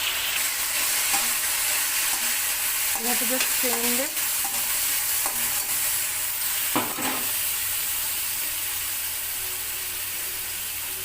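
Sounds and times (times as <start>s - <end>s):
tomatoes sizzling in oil: 0.0s - 11.0s.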